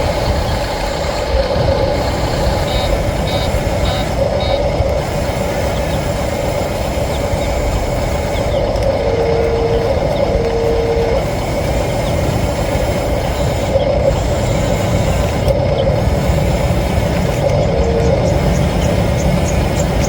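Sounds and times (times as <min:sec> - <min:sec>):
heavy vehicle engine rumble: 0:00.0 - 0:20.0
long low beeps: 0:00.0 - 0:20.0.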